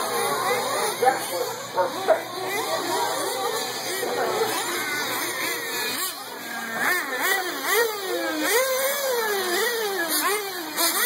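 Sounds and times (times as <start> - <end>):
small engines whining: 0.0 - 11.0.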